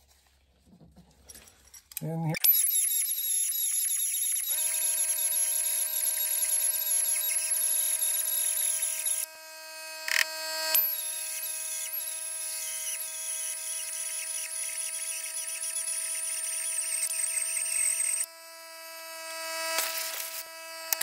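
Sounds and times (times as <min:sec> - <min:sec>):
power drill whining: 0:02.4 - 0:21.0.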